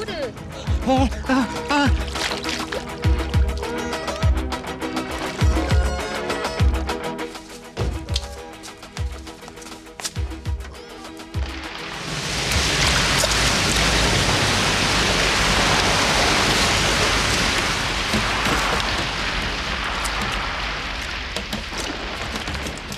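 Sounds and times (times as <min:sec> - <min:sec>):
water gushing and splashing: 0:01.1 - 0:08.2, 0:11.2 - 0:22.9.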